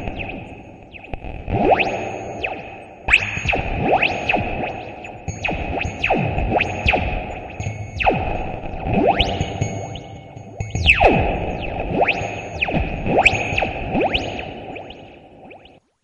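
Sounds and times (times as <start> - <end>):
synthesizer music with pitch sweeps: 0.0 - 15.8.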